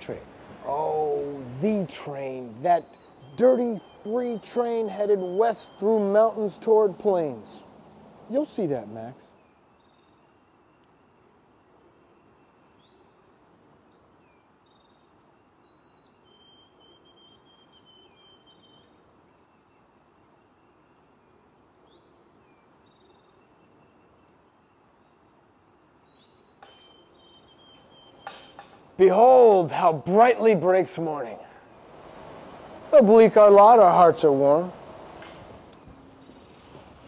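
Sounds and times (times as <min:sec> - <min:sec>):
faint birds chirping: 0:00.0 - 0:37.0
low steady hiss: 0:00.0 - 0:37.0.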